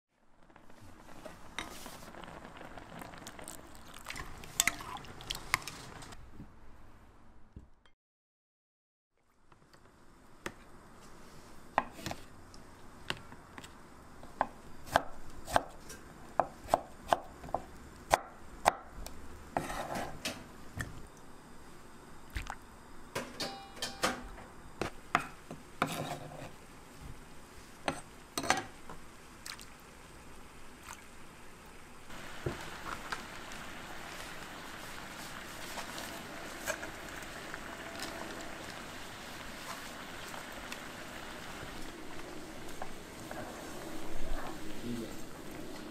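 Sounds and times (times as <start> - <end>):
water boiling: 0.1 - 6.2, 9.2 - 23.2, 24.5 - 45.9.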